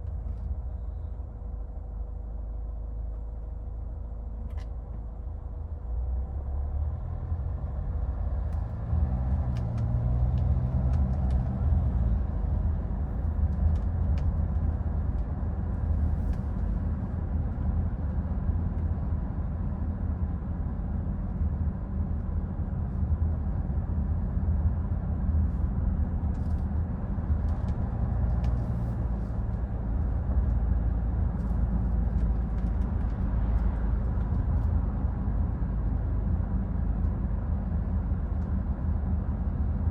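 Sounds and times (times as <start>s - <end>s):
low road rumble: 0.0s - 39.9s.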